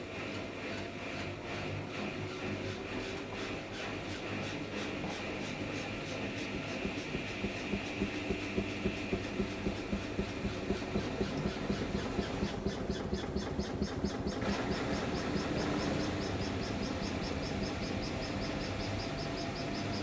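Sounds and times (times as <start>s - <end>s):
washing machine motor whine: 0.0s - 20.0s
rhythmic clicking of drum: 0.2s - 20.0s.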